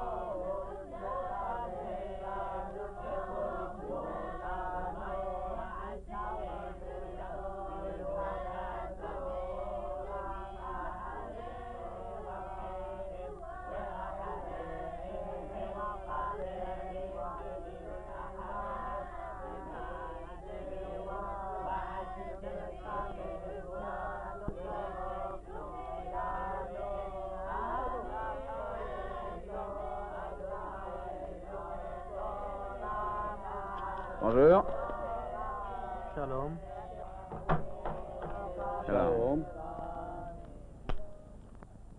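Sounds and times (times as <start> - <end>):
men chanting together: 0.0 - 40.5.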